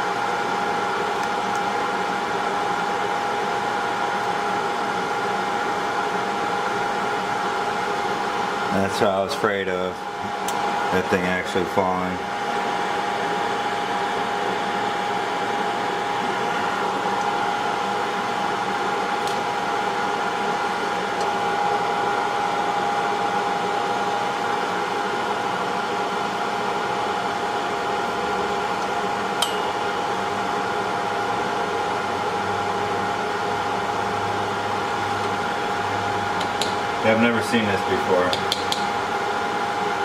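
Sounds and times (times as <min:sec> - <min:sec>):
hot-air station blowing with whine: 0:00.0 - 0:40.0.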